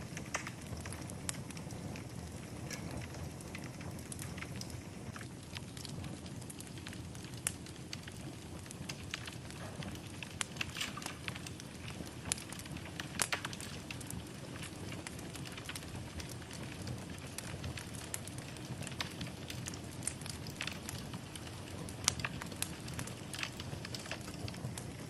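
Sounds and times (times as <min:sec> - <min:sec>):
fire crackling and popping: 0:00.0 - 0:25.0
fire flames rumbling: 0:00.0 - 0:25.0.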